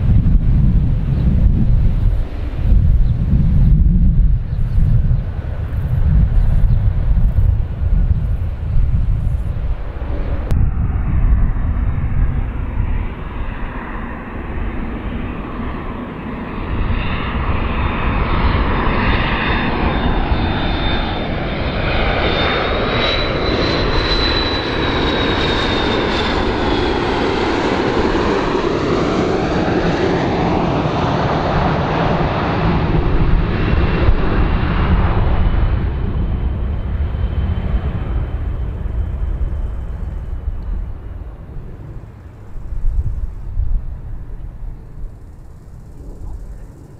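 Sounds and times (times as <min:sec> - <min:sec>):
jet airliner rumble: 0:00.0 - 0:46.9
jet engine whine: 0:00.0 - 0:46.9.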